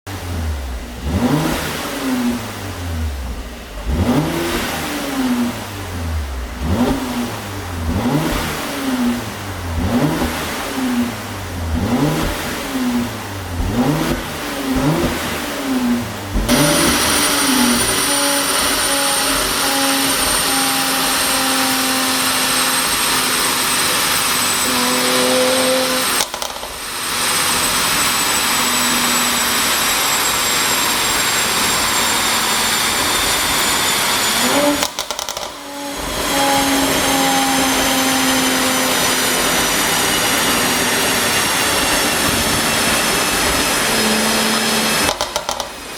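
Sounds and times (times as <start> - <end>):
car engine revving with whine: 0.1 - 45.9.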